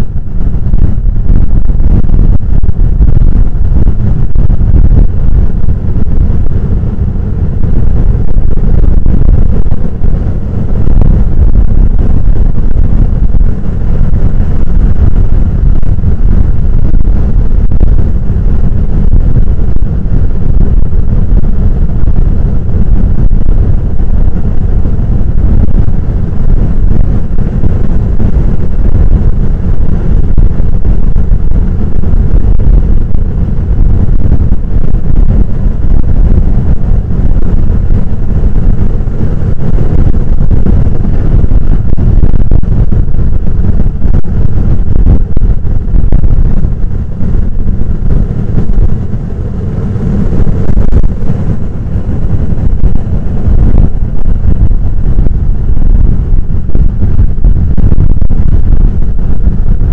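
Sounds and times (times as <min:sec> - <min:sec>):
heavy surf rumbling: 0:00.0 - 0:59.9.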